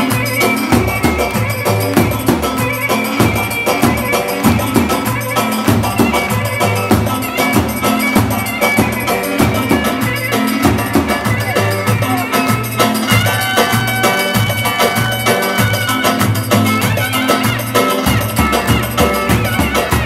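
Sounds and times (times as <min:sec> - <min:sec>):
bass drum beat: 0:00.0 - 0:20.0
clarinet melody: 0:00.0 - 0:20.0.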